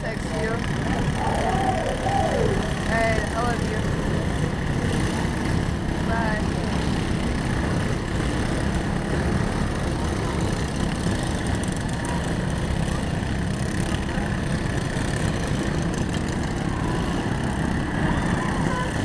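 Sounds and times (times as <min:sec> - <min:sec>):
crowd voices: 0:00.0 - 0:07.1, 0:08.8 - 0:19.0
lawn mower engines droning: 0:00.0 - 0:19.0.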